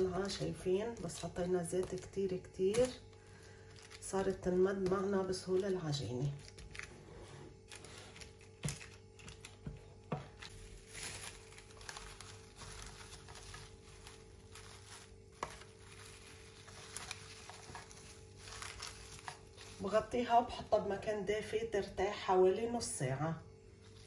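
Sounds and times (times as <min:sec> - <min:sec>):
cling film crinkling: 0:00.0 - 0:20.2.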